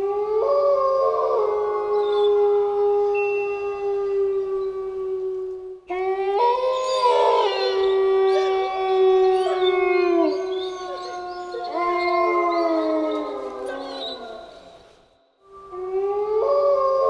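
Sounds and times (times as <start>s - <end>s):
wolves howling: 0.0s - 17.0s.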